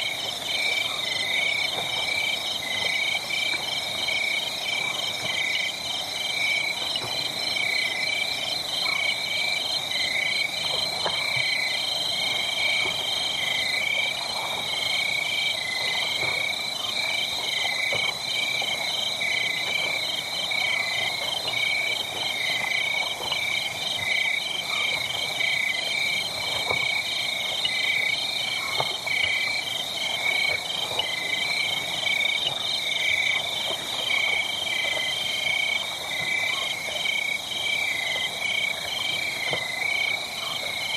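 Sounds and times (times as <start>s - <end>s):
frogs and insects calling: 0.0s - 40.9s.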